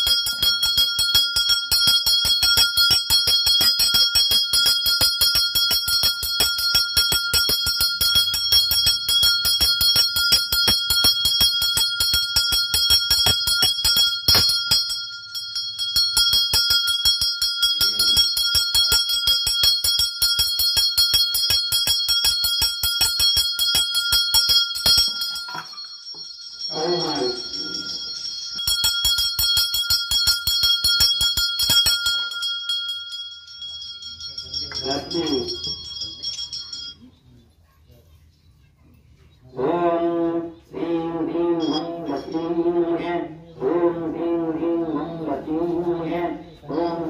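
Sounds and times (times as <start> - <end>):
brass hand bell ringing: 0.0 - 37.1, 41.3 - 43.0.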